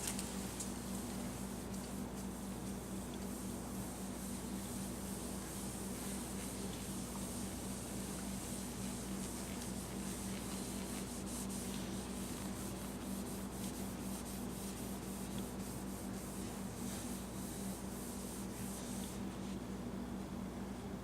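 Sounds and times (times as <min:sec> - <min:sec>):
steady low hum: 0:00.0 - 0:21.0
cloth rubbing on plastic: 0:00.3 - 0:19.6.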